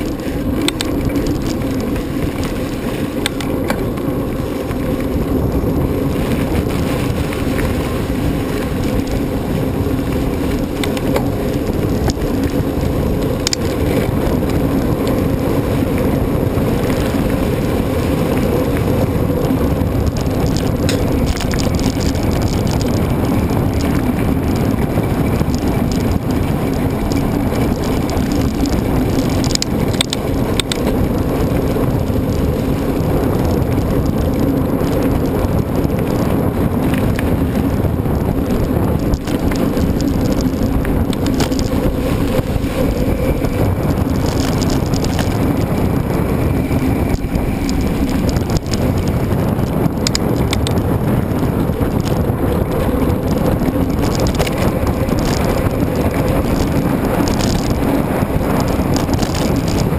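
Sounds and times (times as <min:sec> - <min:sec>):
bike tyres rolling: 0:00.0 - 0:59.9
wind buffeting microphone: 0:00.0 - 0:59.9.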